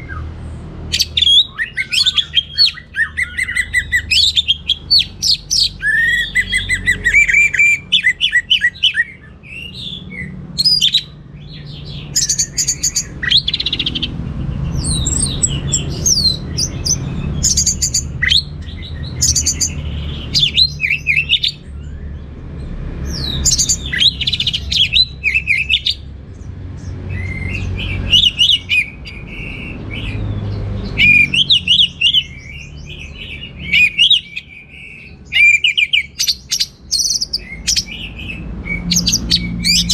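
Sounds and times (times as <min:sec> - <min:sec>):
bird singing chirps and whistles: 0:00.9 - 0:22.3, 0:23.0 - 0:26.1, 0:27.1 - 0:39.9.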